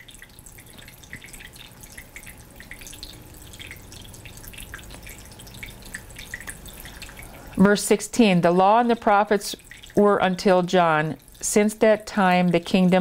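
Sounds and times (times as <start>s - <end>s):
tabletop water fountain trickling: 0.0s - 13.0s.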